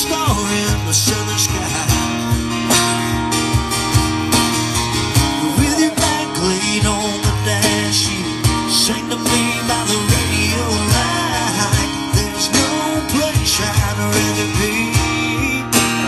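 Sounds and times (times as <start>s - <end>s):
person singing: 0.0s - 3.0s, 5.2s - 16.0s
acoustic guitar strumming: 0.0s - 16.0s
cajon beat: 0.0s - 16.0s.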